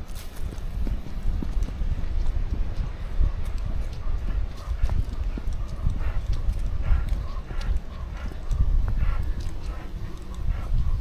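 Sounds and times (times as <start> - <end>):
footsteps on woodland path: 0.0 - 11.0.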